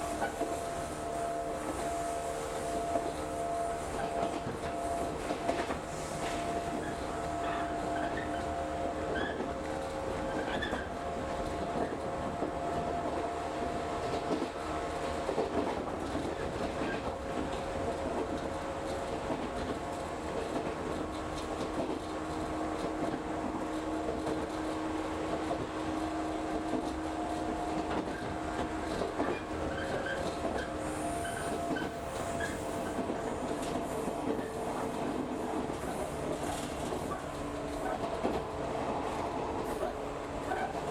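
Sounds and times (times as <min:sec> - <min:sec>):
train rumble and hum: 0:00.0 - 0:40.9.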